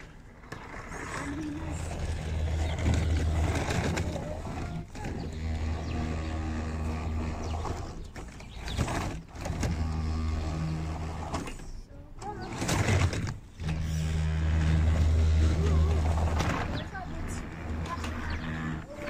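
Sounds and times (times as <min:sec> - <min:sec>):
toy car motor hum: 0:00.0 - 0:19.0.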